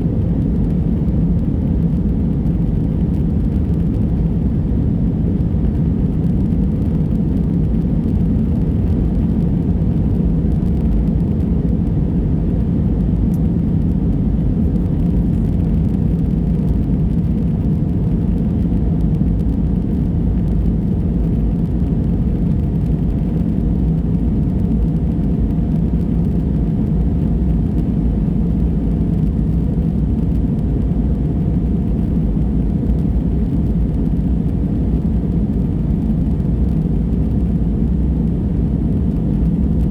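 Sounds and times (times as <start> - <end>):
airliner cabin engine rumble: 0.0 - 39.9
faint steady whine: 0.0 - 39.9.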